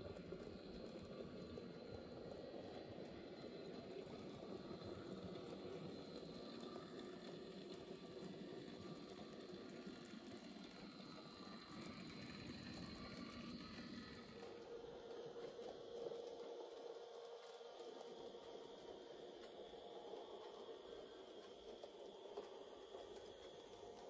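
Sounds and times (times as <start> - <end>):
model train whirring: 0.0 - 24.0.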